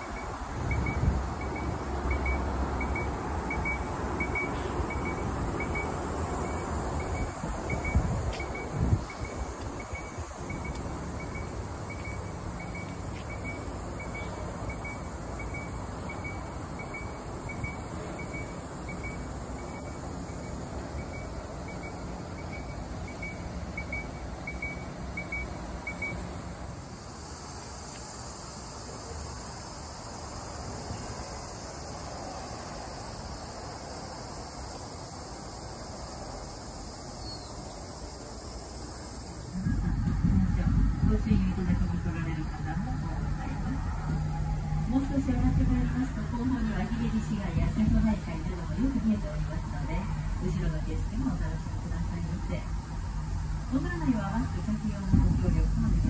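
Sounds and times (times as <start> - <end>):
high insect chirp: 0.0 - 56.0
outdoor background noise: 0.0 - 56.0.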